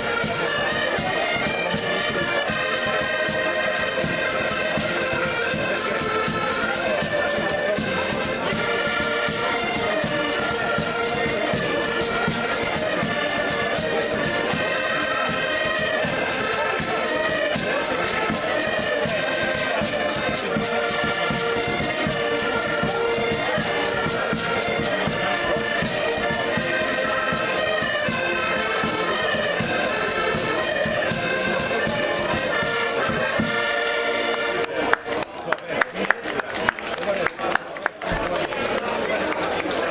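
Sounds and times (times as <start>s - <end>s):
accordions playing folk tune: 0.0s - 36.2s.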